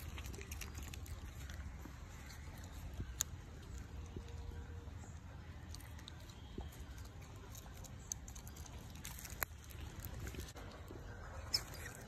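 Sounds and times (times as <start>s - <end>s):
otter chewing wet clicks: 0.0s - 12.0s.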